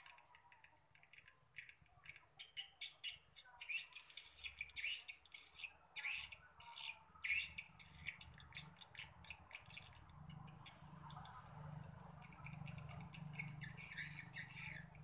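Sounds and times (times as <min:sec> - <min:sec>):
birds twittering: 0:00.0 - 0:15.0.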